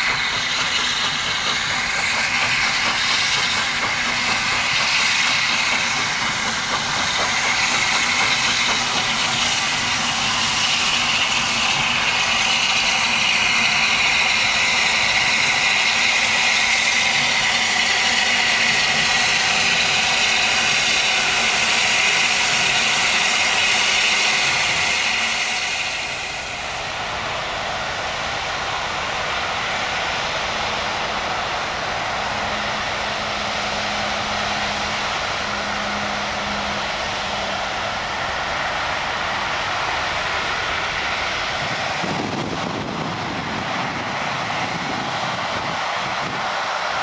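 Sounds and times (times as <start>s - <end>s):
steam hissing: 0.0s - 47.0s
steam locomotive hauling coaches: 0.0s - 47.0s.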